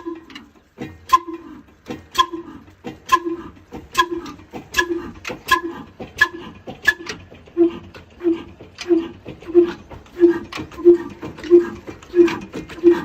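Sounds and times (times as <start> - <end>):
diesel engine exhaust bangs: 0.0 - 13.0.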